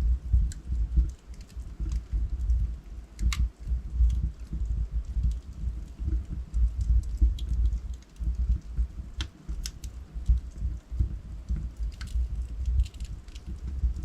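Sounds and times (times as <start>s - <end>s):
rumble of flames: 0.0s - 14.0s
wood fire crackling: 0.0s - 14.0s.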